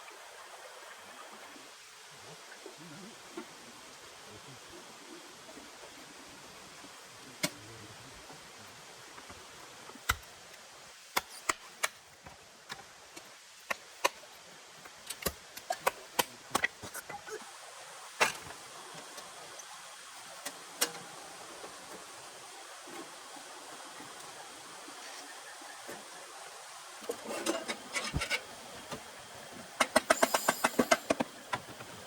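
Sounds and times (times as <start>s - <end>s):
steady soft hiss: 0.0s - 32.0s.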